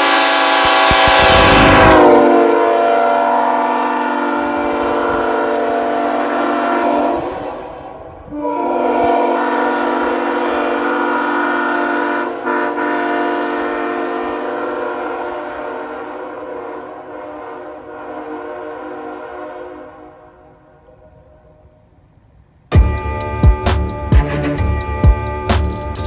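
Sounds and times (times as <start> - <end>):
locomotive horn blasts: 0.0 - 20.6, 22.8 - 26.0.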